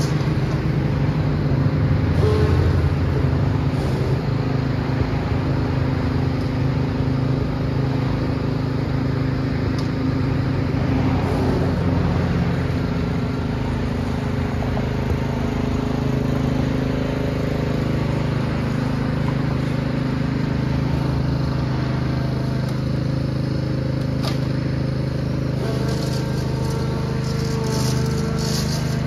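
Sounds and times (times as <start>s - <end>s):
lawn tractor engine running: 0.0s - 29.0s.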